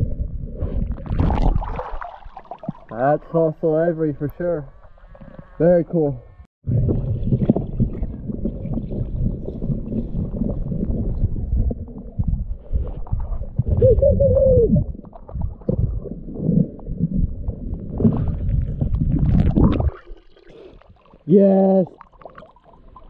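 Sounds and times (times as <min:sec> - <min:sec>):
muffled underwater water rushing: 0:00.0 - 0:23.0.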